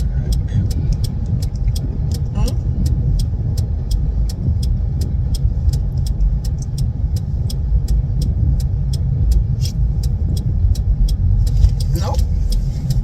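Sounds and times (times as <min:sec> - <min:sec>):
road and engine rumble: 0:00.0 - 0:13.0
turn signal ticking: 0:00.0 - 0:13.0.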